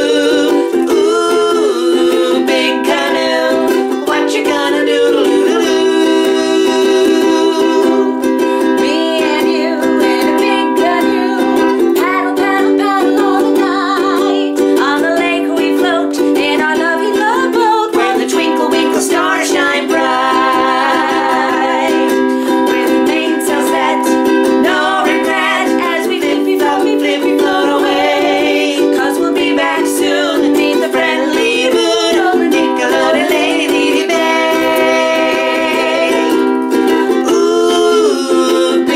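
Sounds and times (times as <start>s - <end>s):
person singing: 0.0s - 38.9s
ukulele playing: 0.0s - 38.9s.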